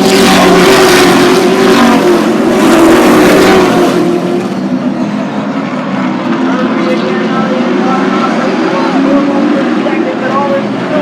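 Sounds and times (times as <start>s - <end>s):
race truck engines passing: 0.0s - 11.0s.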